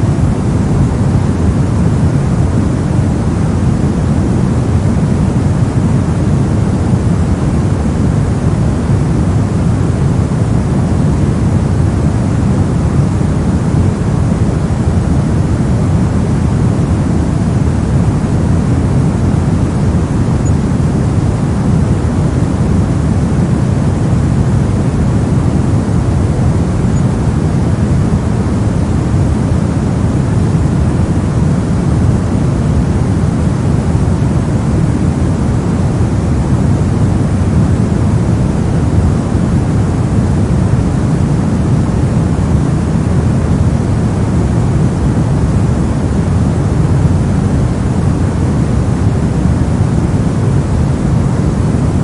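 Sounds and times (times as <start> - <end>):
steady low hiss-rumble noise: 0.0 - 52.0.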